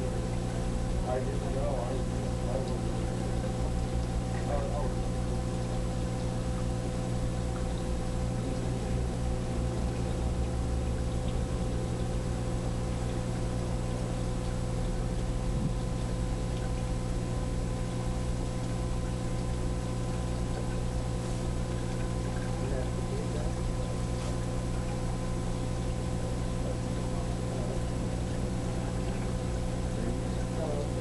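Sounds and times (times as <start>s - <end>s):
aquarium equipment humming: 0.0s - 31.0s.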